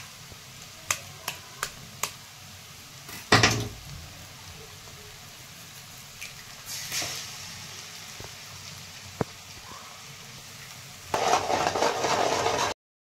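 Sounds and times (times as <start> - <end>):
food sizzling in a pan: 0.0 - 12.8.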